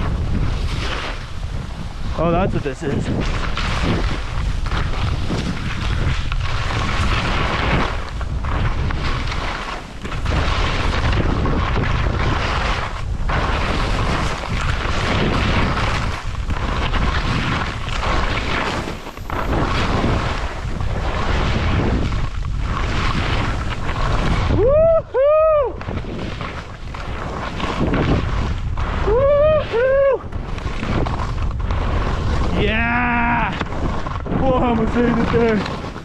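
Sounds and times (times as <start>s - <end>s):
skis scraping on icy snow: 0.0s - 36.0s
wind buffeting microphone: 0.0s - 36.0s.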